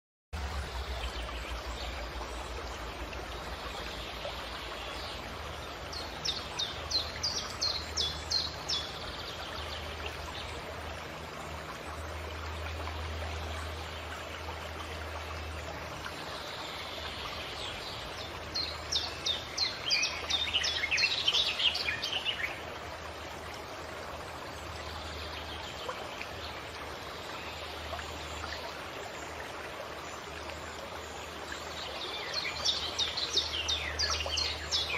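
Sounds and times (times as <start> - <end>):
stream running: 0.4 - 34.9.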